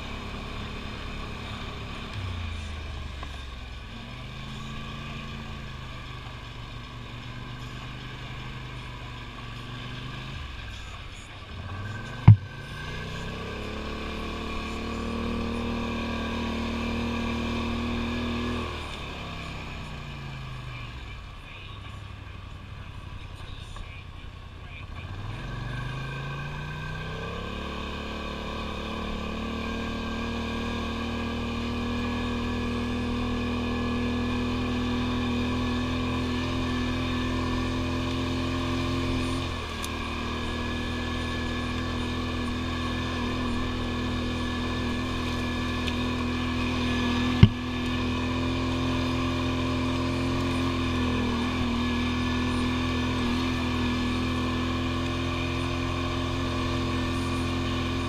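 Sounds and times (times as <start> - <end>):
quad bike engine: 0.0 - 58.0.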